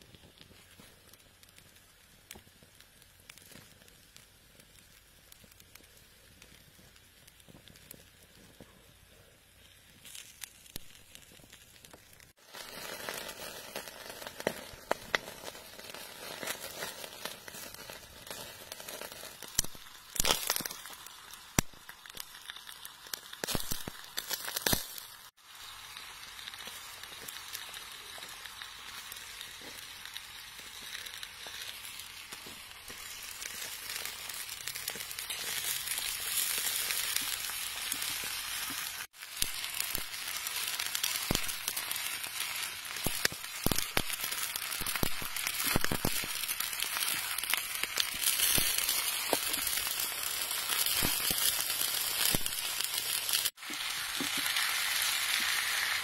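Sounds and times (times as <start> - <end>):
peppers sizzling: 0.0 - 56.0
sharp pops and crackles: 0.0 - 56.0.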